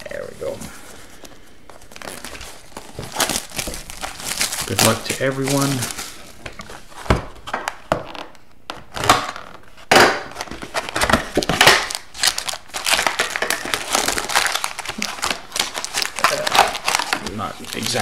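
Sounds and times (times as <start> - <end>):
foil packs crinkling: 0.0 - 8.4, 10.4 - 18.0.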